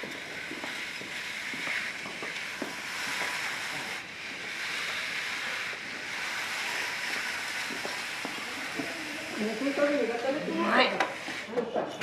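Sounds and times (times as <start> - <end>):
food sizzling in a frying pan: 0.0 - 11.6.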